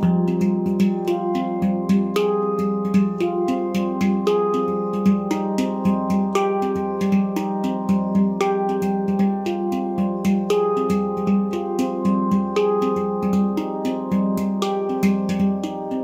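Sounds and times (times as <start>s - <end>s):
handpan played by hand: 0.0s - 16.0s.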